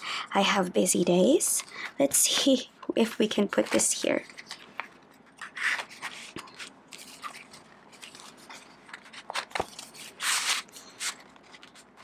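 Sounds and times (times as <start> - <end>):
plastic cover rustling and crinkling: 1.4 - 12.0.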